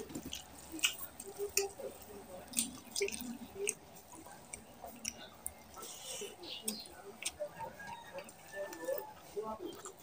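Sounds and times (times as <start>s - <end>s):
chewing: 0.0s - 10.0s.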